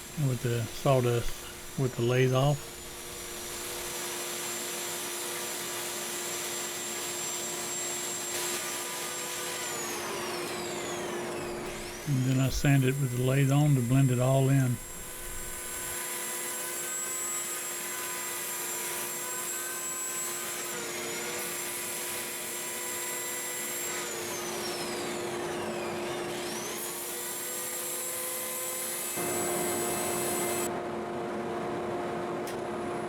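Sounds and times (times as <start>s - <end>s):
wood lathe motor whine: 0.0s - 30.8s.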